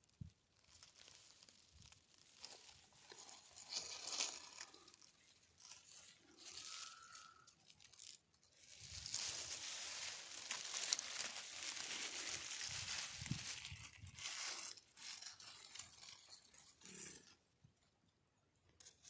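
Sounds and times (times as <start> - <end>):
faint rustling and crackling: 0.0 - 17.8.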